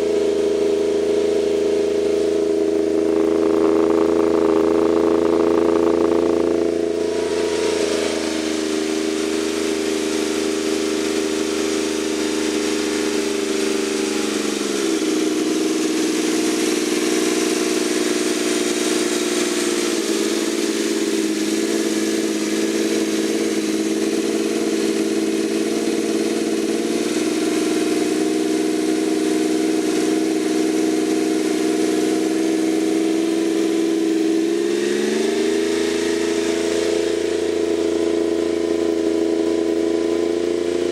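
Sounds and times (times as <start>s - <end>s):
three-cylinder engine running: 0.0s - 40.9s.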